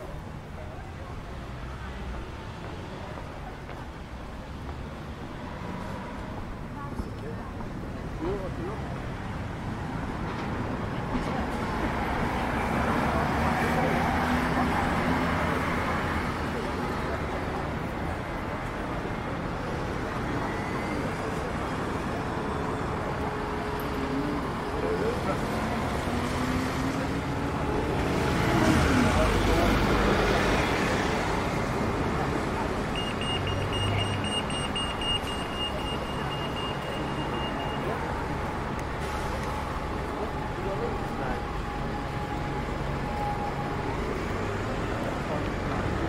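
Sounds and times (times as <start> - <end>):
city road traffic hum: 0.0 - 46.0.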